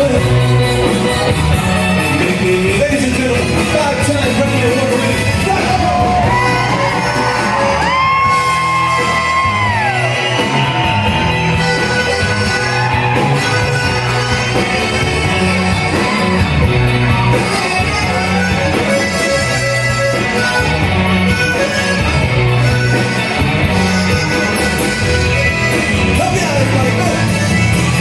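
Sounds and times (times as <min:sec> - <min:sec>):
live band playing instrumental: 0:00.0 - 0:28.0.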